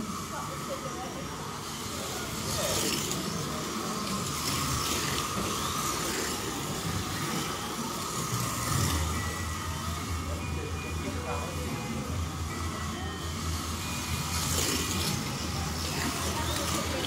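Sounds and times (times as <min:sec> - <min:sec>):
slot car motors whining: 0:00.0 - 0:17.0.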